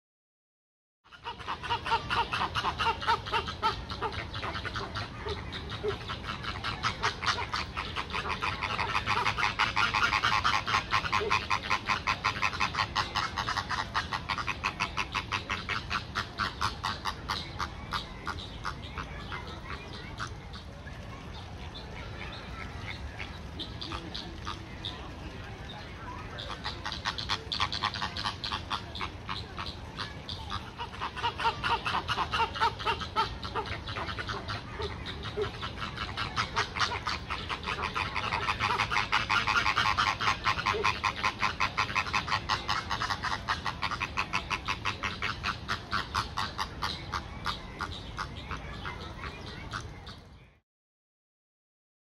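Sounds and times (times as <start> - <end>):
flamingos calling: 1.1 - 50.3.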